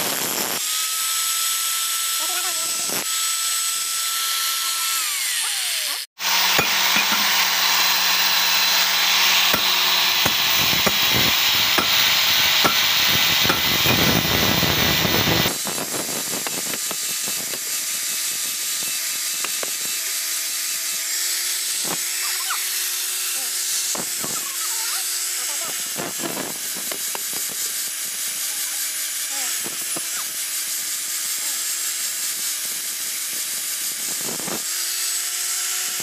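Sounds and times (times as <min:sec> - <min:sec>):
angle grinder grinding steel: 0:00.0 - 0:36.0.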